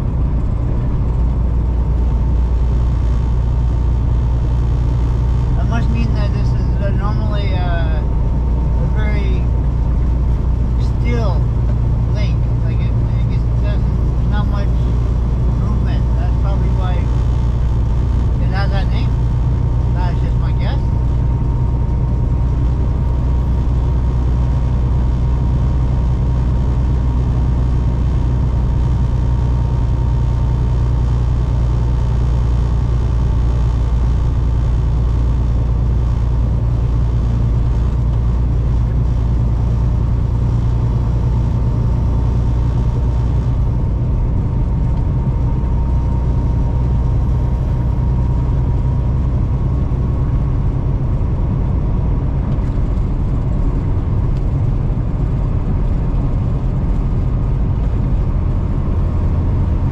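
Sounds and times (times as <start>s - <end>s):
faint whine: 0.0s - 59.9s
truck engine and road noise: 0.0s - 59.9s.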